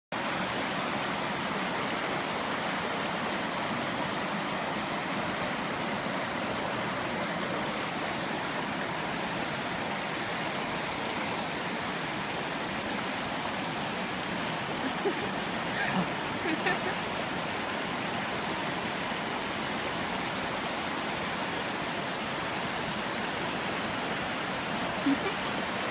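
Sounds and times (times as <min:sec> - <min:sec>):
floodwater rushing: 0:00.1 - 0:25.9.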